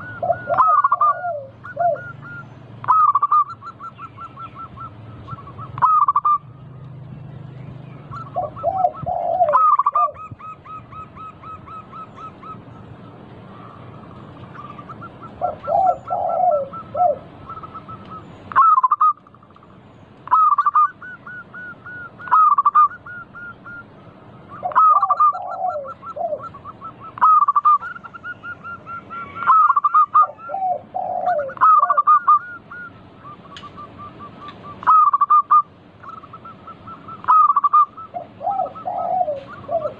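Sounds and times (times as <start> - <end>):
doves calling: 0.0 - 39.9
doves cooing: 0.0 - 39.9.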